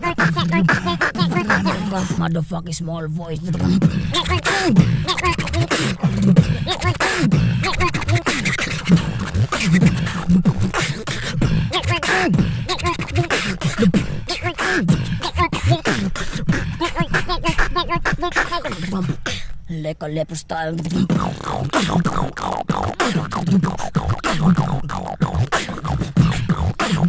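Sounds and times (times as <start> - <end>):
beatboxing: 0.0 - 27.0
high bending vocal tones: 0.0 - 27.0.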